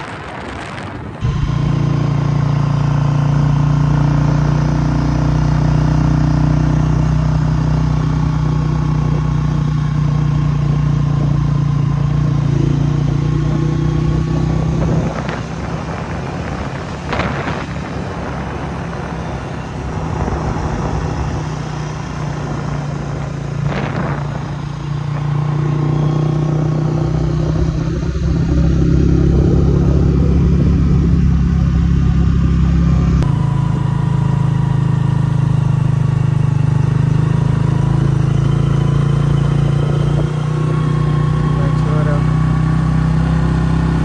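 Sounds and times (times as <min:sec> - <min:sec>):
motorcycle engine running: 0:00.0 - 0:44.0
road and wind noise: 0:00.0 - 0:44.0.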